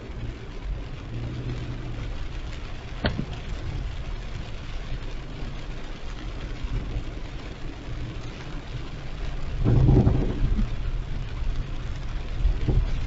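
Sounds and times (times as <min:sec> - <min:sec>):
car engine humming: 0:00.0 - 0:13.0
rain rushing: 0:00.0 - 0:13.0
road noise: 0:00.0 - 0:13.0.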